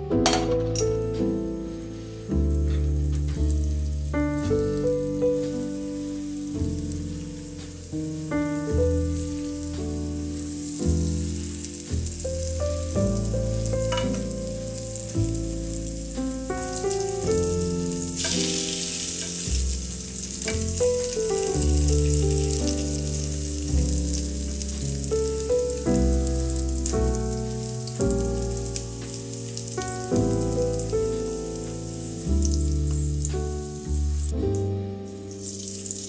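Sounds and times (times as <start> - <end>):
background music with bass: 0.0 - 35.4
pancakes sizzling in oil: 1.7 - 34.3, 35.1 - 36.0.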